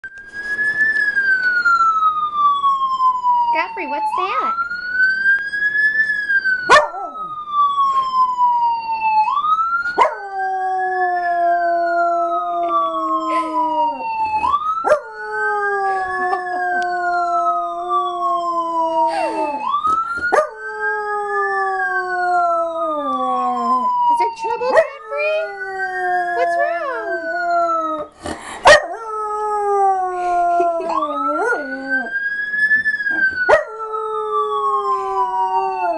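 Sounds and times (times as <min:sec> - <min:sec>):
siren wailing: 0:00.0 - 0:35.9.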